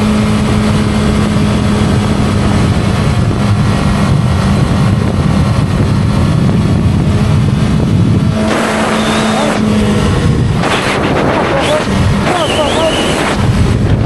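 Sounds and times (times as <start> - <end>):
motorcycle engine running: 0.0 - 14.0
rushing rumble: 0.0 - 14.0.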